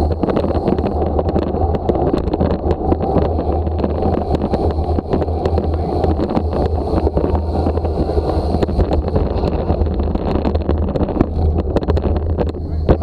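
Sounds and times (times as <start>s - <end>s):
bicycle clicks and rattles: 0.0s - 13.0s
tyre on road noise: 0.0s - 13.0s
wind rushing over microphone: 0.0s - 13.0s.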